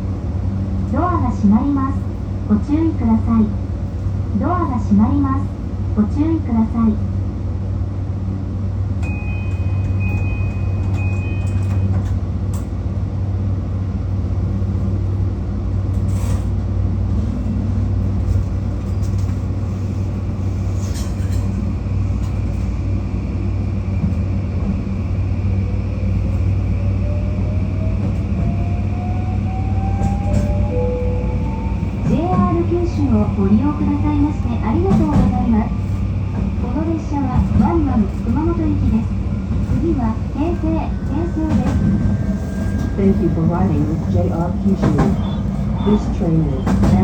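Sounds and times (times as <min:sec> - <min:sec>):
electric train hum: 0:00.0 - 0:47.0.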